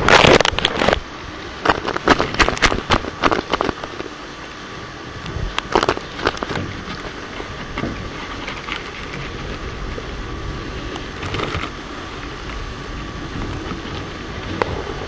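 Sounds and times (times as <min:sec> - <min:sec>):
rushing noise in chimney flue: 0:00.0 - 0:15.0.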